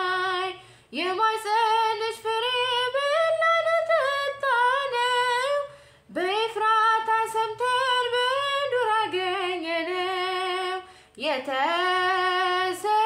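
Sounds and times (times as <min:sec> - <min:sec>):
woman singing a hymn solo: 0:00.0 - 0:13.0.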